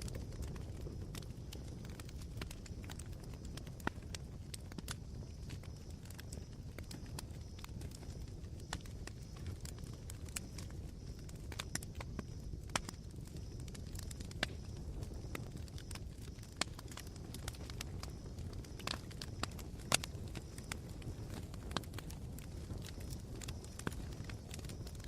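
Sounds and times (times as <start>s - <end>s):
campfire embers crackling: 0.0s - 25.0s.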